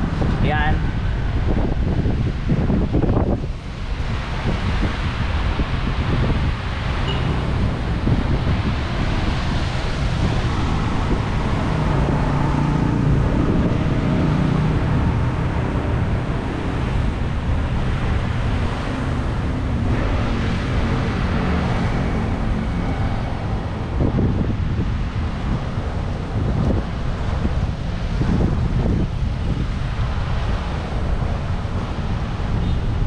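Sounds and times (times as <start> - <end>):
road traffic: 0.0 - 33.0
wind buffeting microphone: 0.0 - 33.0.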